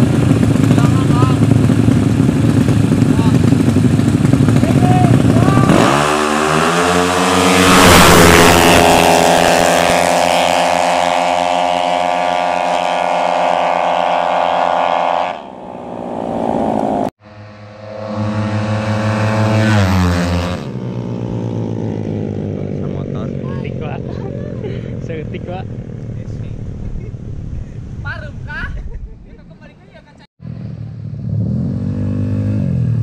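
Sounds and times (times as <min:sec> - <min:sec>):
scooter engine revving hard: 0:00.0 - 0:26.0, 0:30.4 - 0:33.0.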